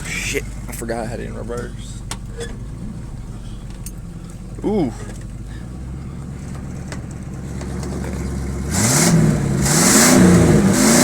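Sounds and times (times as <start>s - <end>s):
pickup truck engine idling and revving: 0.0s - 11.0s.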